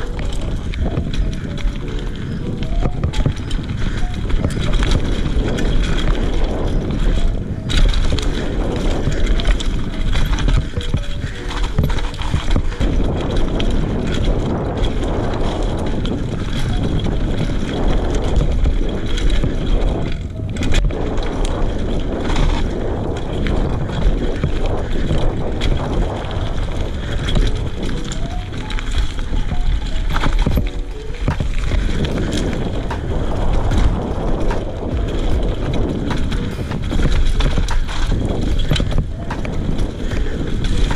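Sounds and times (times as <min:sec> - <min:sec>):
bike rattling and knocking: 0:00.0 - 0:40.9
bike tyres on dirt and stones: 0:00.0 - 0:40.9.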